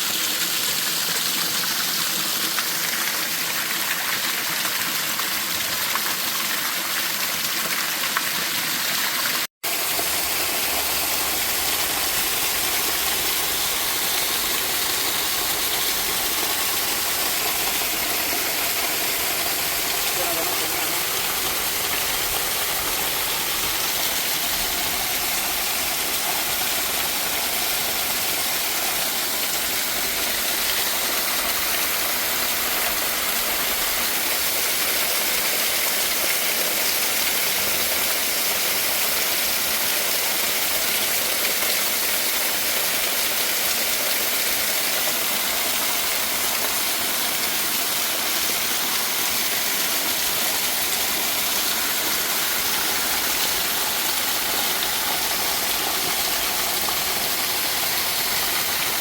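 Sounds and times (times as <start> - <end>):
waterfall rushing: 9.3 - 59.0.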